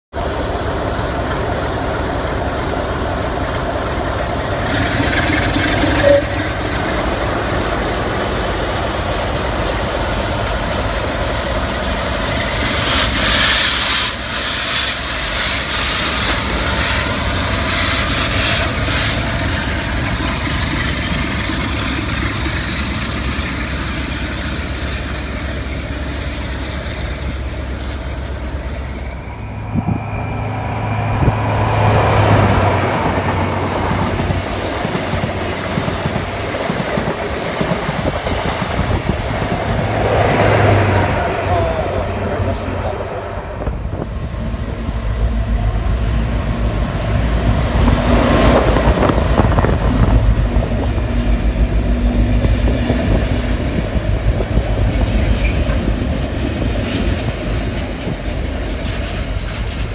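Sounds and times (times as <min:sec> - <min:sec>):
locomotive engine drone: 0:00.1 - 0:59.9.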